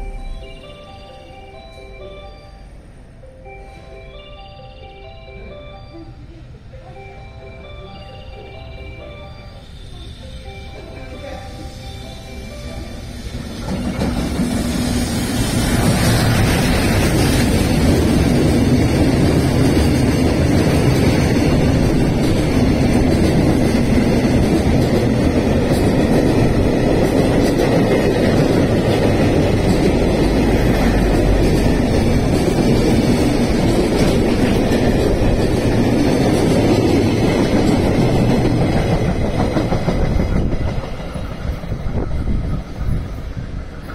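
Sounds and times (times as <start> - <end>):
freight train wheels on track: 4.8 - 43.9.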